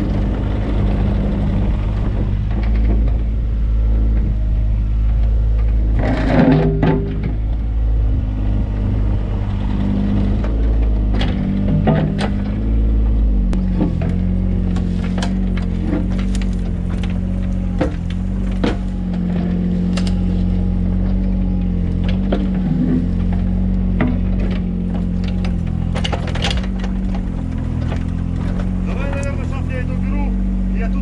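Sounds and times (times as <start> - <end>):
excavator engine running: 0.0 - 31.0
machine clanks and knocks: 0.1 - 3.4, 4.0 - 7.6, 8.5 - 12.7, 13.5 - 29.7.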